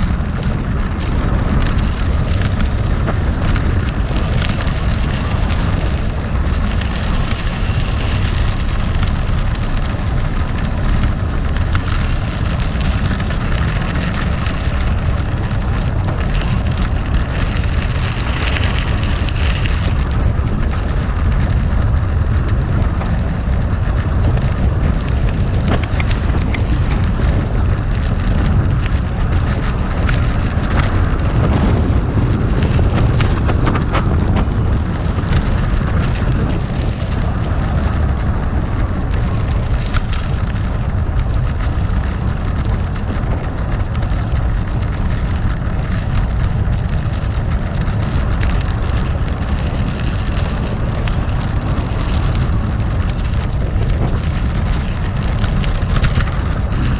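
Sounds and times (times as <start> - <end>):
bike rattle: 0.0 - 56.9
bike tyres crunching on gravel: 0.0 - 56.9
wind buffeting microphone: 0.0 - 56.9.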